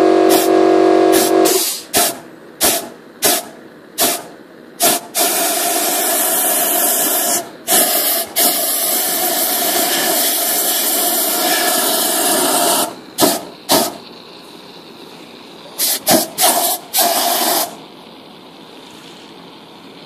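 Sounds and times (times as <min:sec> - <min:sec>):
gas torch hissing: 0:00.0 - 0:20.0.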